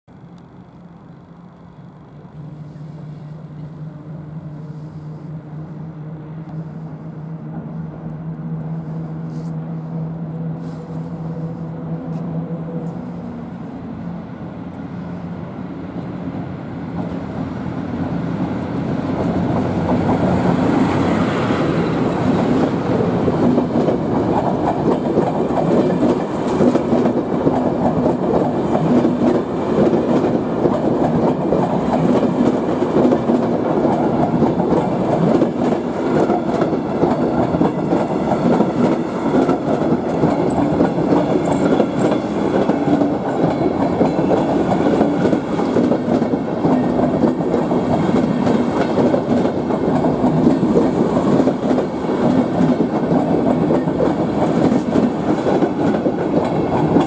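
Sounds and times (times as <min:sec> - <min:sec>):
train wheels rushing on rails: 0:00.1 - 0:57.0.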